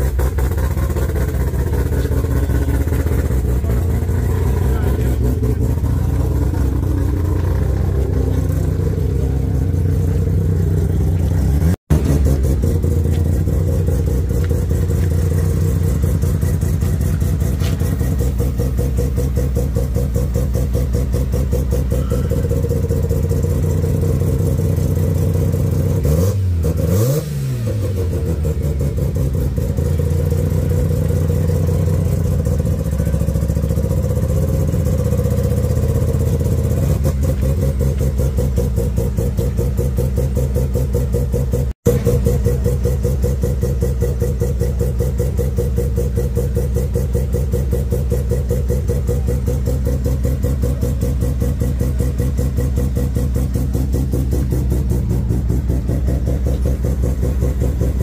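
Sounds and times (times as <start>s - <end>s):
sports car engine idling and revving: 0.0s - 58.0s.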